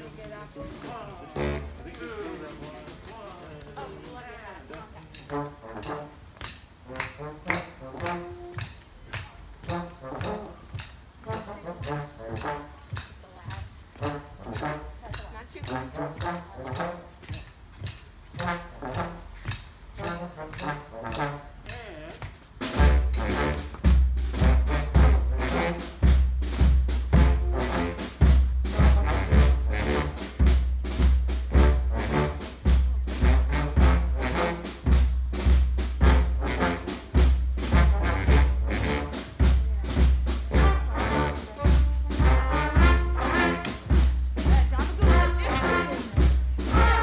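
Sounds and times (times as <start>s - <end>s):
drum beat: 0.0s - 47.0s
brass horns and trombone: 0.7s - 3.2s, 4.9s - 47.0s.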